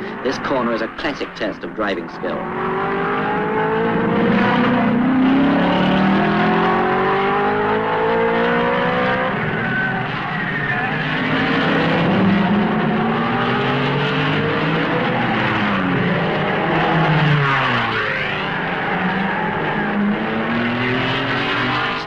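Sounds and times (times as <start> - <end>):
race car engines accelerating: 0.0 - 22.0.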